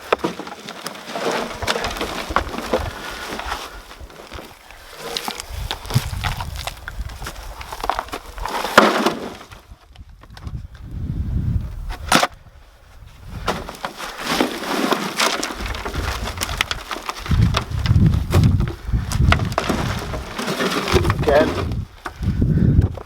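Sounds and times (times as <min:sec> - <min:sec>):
hands digging through dry compost: 0:00.0 - 0:09.7, 0:13.2 - 0:22.7.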